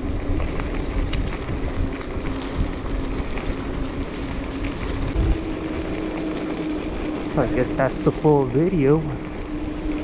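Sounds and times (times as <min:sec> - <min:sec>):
electric bike hum: 0:00.0 - 0:10.0
wind rushing over microphone: 0:00.0 - 0:10.0.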